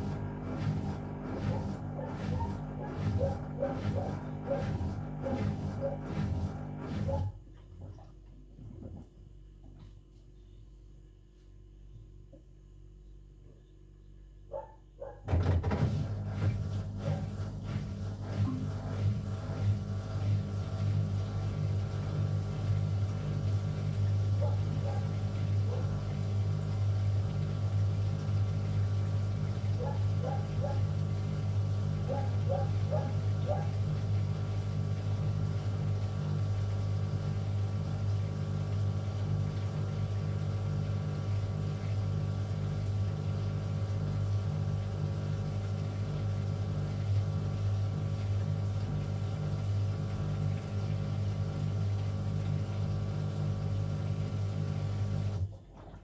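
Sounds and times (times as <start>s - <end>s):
washing machine motor hum: 0.0s - 13.7s, 14.5s - 56.0s.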